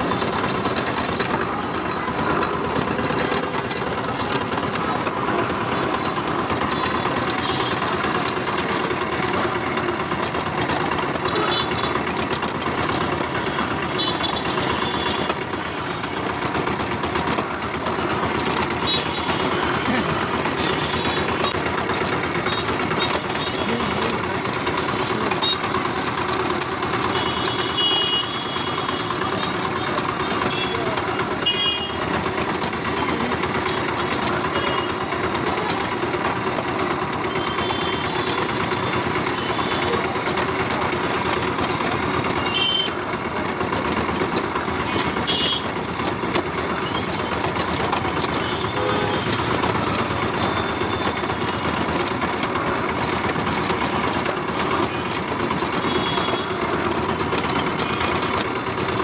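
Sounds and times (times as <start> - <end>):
juice press mechanical drone: 0.0 - 59.0.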